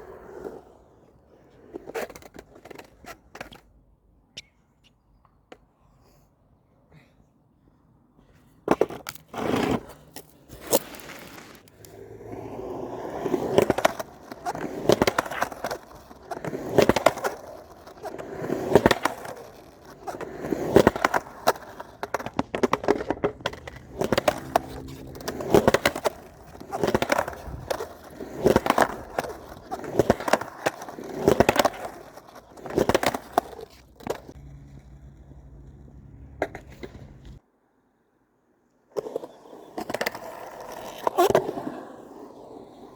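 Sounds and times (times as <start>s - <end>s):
skateboard wheels rolling on pavement: 0.0s - 4.3s, 8.2s - 37.5s, 38.8s - 42.9s.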